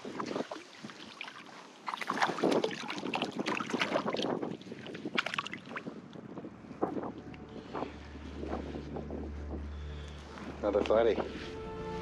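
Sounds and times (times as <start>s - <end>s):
water splashing in shallows: 0.0s - 11.6s.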